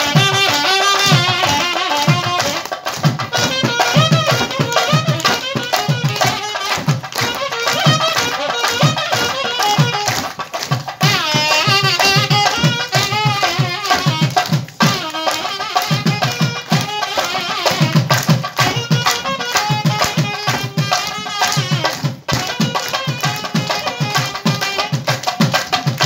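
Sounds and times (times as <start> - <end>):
rapid hand-drum strokes: 0.0 - 26.0.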